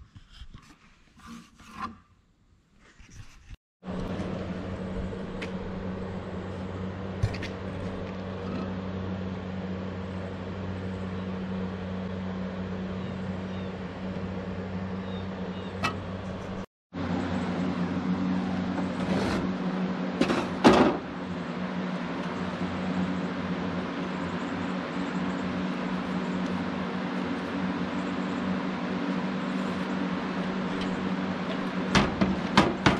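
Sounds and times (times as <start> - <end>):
low mechanical hum: 1.2 - 32.9.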